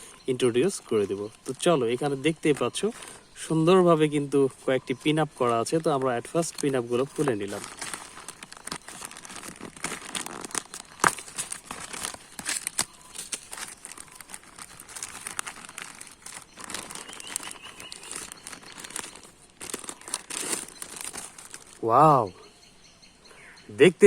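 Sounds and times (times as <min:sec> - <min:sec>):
packaging crinkling: 0:00.6 - 0:03.2, 0:05.0 - 0:21.9.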